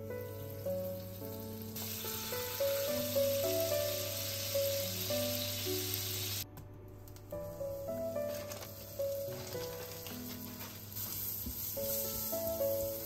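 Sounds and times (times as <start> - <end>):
butter sizzling in a frying pan: 0.2 - 6.4, 8.3 - 13.0.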